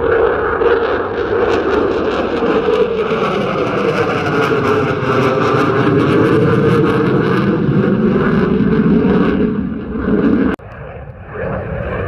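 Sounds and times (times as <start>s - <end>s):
aircraft engine flying by: 0.0s - 12.0s.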